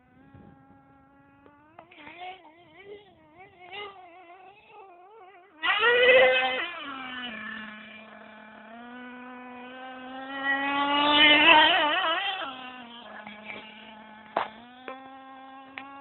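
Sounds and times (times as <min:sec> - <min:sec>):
toy car motor revving: 0:00.0 - 0:16.0.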